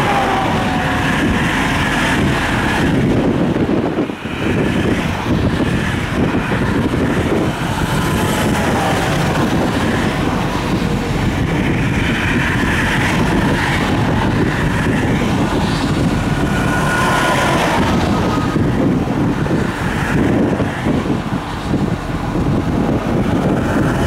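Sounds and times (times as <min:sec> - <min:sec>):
highway traffic passing: 0:00.0 - 0:24.0
truck passing close: 0:00.0 - 0:24.0.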